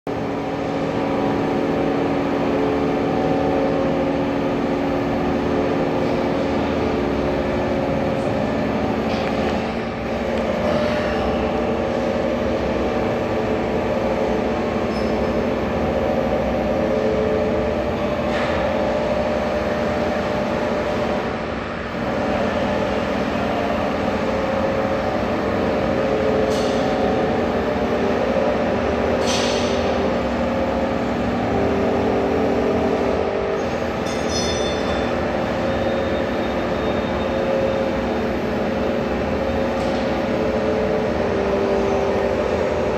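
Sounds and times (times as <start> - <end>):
pipe bending machine humming: 0.1 - 42.9.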